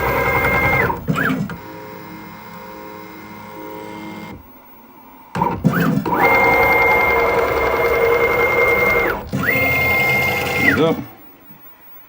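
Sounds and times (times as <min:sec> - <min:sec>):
router motors whining: 0:00.0 - 0:11.2.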